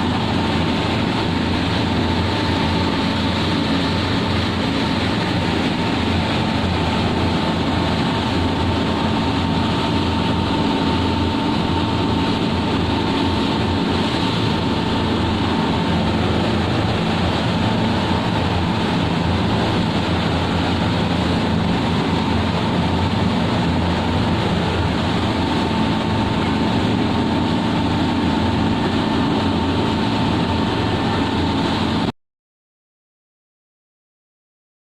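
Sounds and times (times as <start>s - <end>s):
boat engine running: 0.0s - 32.1s
rushing noise: 0.0s - 32.1s.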